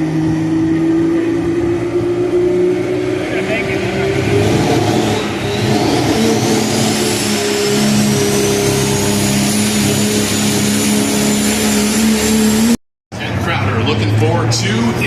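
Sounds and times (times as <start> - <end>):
diesel truck engine high revs: 0.0 - 15.0.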